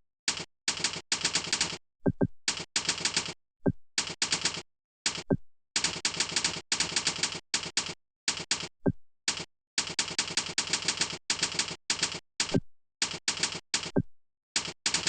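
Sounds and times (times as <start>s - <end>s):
rapid keyboard typing: 0.3s - 3.4s, 4.0s - 15.0s.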